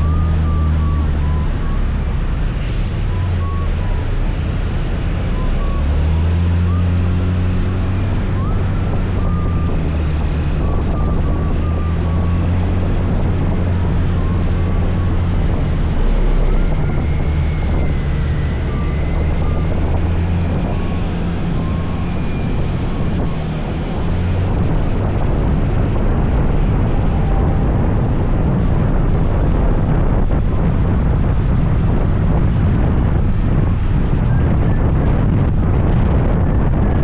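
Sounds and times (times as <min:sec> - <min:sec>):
wind and road noise: 0:00.0 - 0:37.0.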